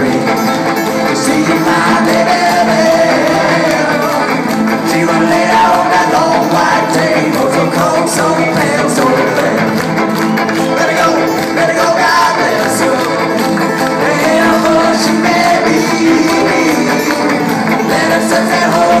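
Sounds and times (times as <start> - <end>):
fiddle: 0.0 - 19.0
guitars: 0.0 - 19.0
person singing: 0.0 - 19.0
upright bass: 0.0 - 19.0.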